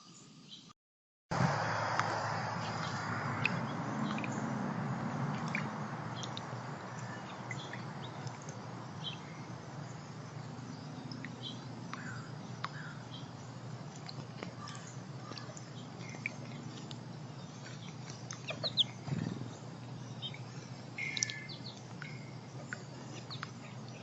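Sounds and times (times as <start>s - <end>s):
birds chirping: 1.7s - 24.0s.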